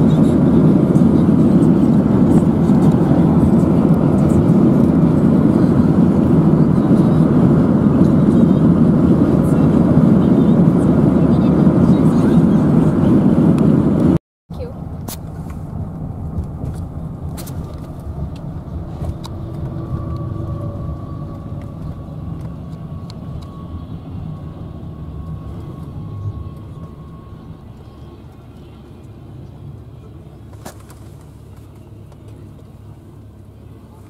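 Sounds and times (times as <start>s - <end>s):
freight train rumbling: 0.0s - 34.0s.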